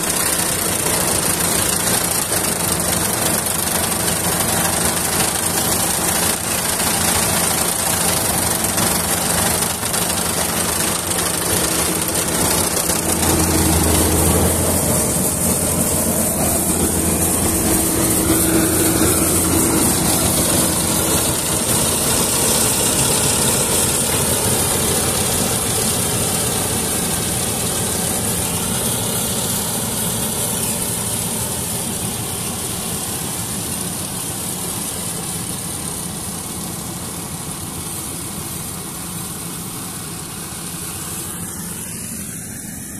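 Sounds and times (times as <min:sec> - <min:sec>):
combine harvester mechanical drone: 0:00.0 - 0:42.9.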